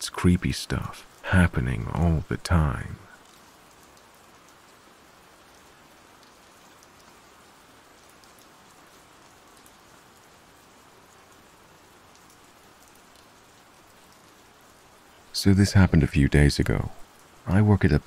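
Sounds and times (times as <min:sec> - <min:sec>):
rain hissing: 0:00.0 - 0:18.0
raindrop ticks: 0:00.0 - 0:18.0.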